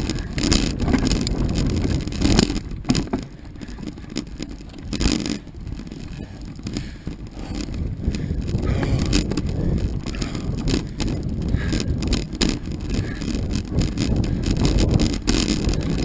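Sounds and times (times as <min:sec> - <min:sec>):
bike knocking and rattling: 0:00.0 - 0:16.0
bike tyres rumbling on dirt: 0:00.0 - 0:16.0
wind buffeting microphone: 0:00.0 - 0:16.0.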